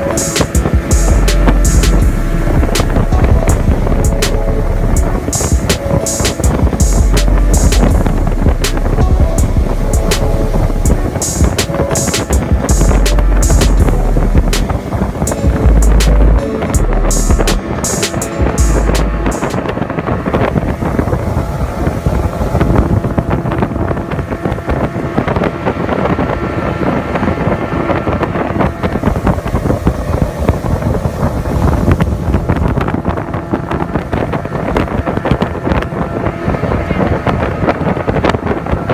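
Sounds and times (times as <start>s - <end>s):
hull rushing over water: 0.0s - 38.9s
speedboat engine drone: 0.0s - 38.9s
wind buffeting microphone: 0.0s - 38.9s.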